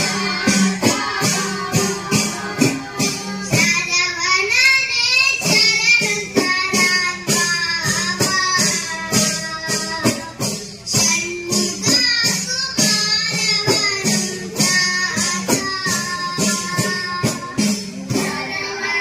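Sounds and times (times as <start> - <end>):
children singing into microphones: 0.0 - 19.0
small hand drums beating: 0.0 - 19.0.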